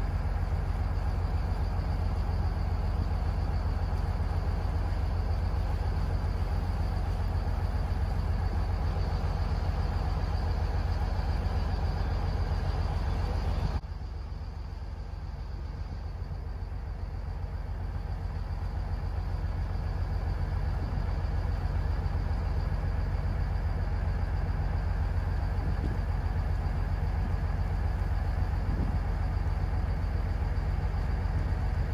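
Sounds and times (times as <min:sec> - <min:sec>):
boat motor rumble: 0:00.0 - 0:31.9.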